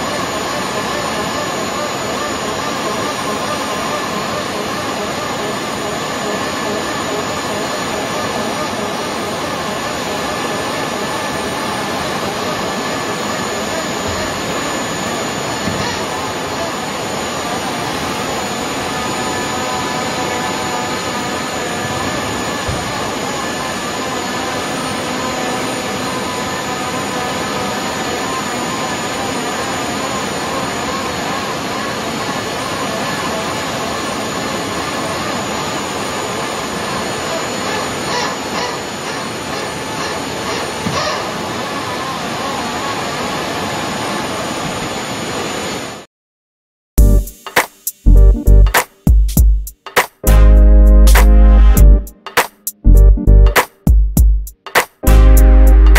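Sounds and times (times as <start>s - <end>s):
hydraulic pumps rushing hum: 0.0s - 45.3s
faint high whine: 0.0s - 46.1s.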